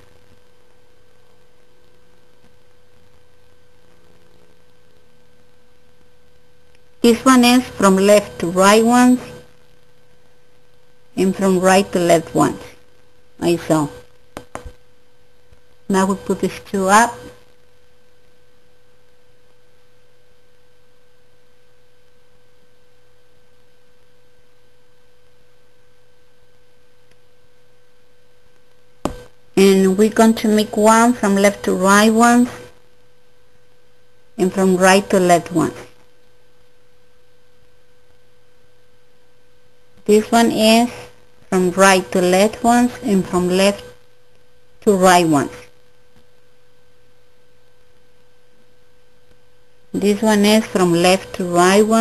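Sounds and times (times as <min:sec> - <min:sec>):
background hiss: 0:00.0 - 0:52.0
low electrical hum: 0:00.0 - 0:52.0.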